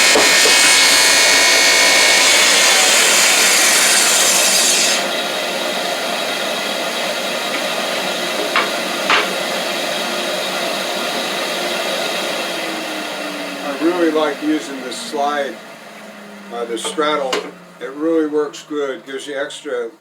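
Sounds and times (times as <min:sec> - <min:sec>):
table saw cutting wood: 0:00.0 - 0:19.8.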